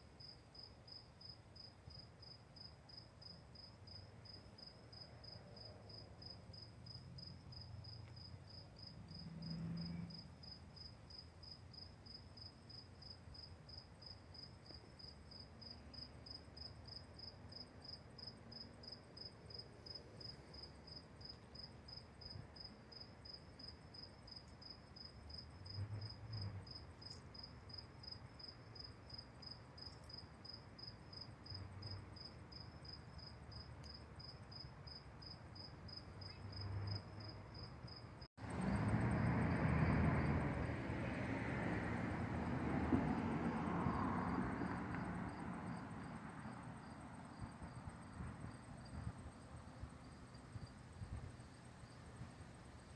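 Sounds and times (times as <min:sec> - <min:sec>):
cricket chirping: 0:00.0 - 0:52.9.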